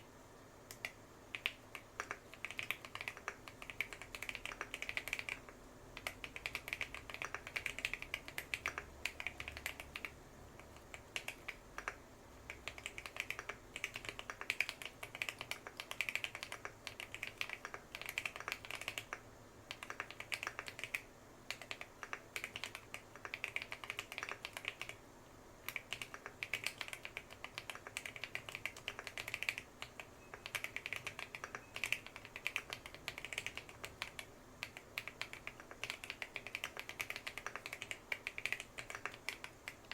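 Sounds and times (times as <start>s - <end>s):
mechanical keyboard typing: 0.7s - 25.0s, 25.6s - 39.9s.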